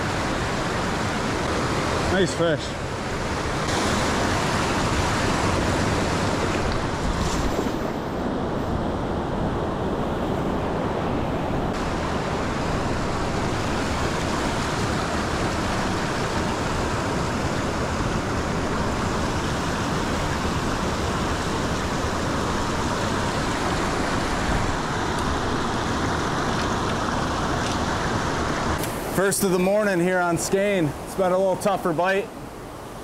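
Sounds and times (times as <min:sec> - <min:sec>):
river rapids rushing: 0:00.0 - 0:08.6, 0:11.7 - 0:33.0.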